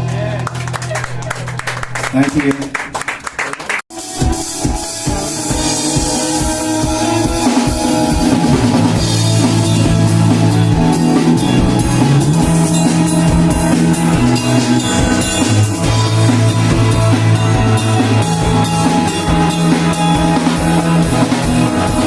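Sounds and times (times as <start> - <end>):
drum kit beat: 3.6 - 22.0
guitar: 3.9 - 22.0
sustained bass notes: 3.9 - 22.0.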